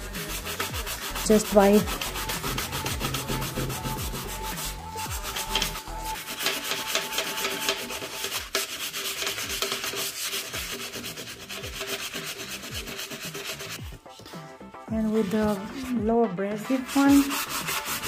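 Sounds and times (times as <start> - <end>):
sandpaper rubbing on metal: 0.0 - 13.8, 16.6 - 18.0.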